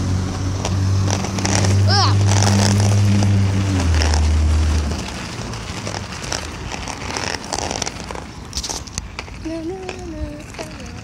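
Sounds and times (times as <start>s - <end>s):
motor vehicle engine hum: 0.0s - 11.0s
wind rumble on microphone: 0.1s - 11.0s.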